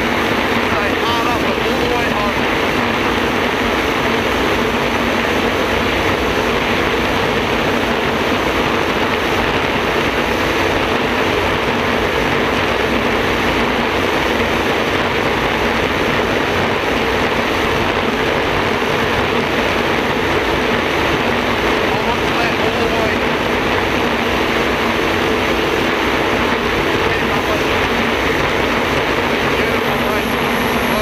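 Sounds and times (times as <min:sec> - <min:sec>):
jet boat turbine engine roaring: 0:00.0 - 0:31.0
wind and water rushing: 0:00.0 - 0:31.0.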